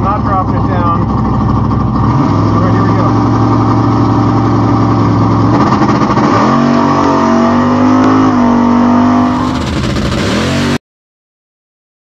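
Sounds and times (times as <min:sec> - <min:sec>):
car engine revving and accelerating: 0:00.2 - 0:10.8.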